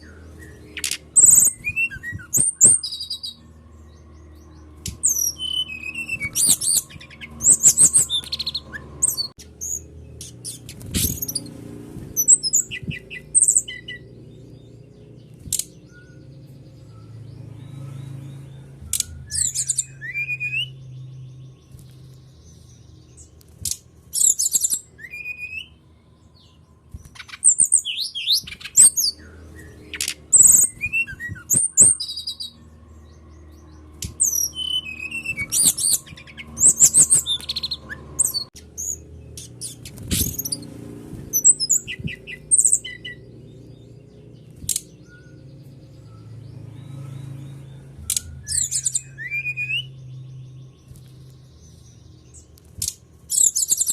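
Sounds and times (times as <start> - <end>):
flycatcher song: 0.0 - 53.9.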